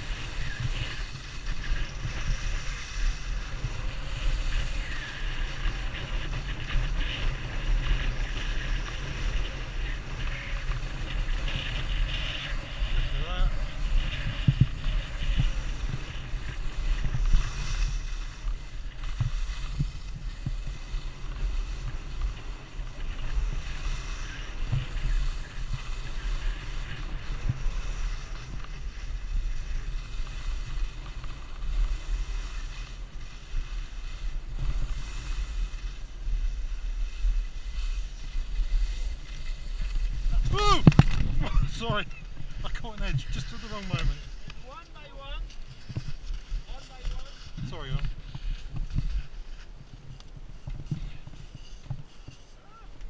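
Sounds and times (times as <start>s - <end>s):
skis sliding on snow: 0.0s - 53.0s
wind buffeting microphone: 0.0s - 53.0s.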